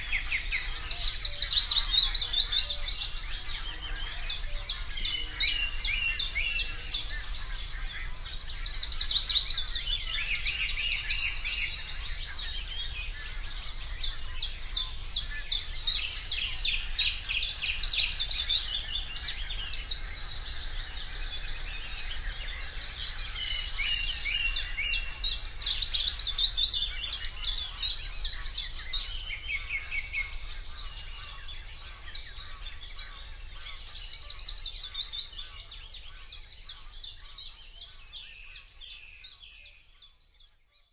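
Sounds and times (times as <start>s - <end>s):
warbler singing: 0.0s - 40.9s.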